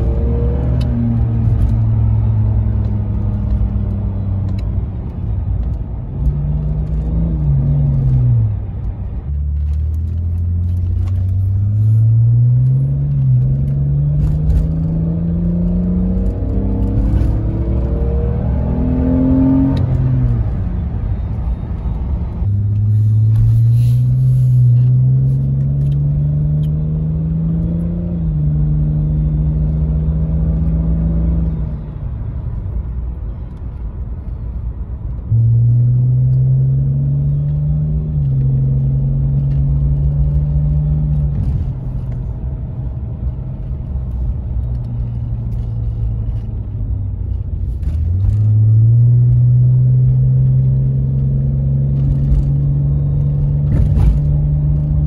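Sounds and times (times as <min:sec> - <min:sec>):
car engine accelerating from inside: 0:00.0 - 0:55.0.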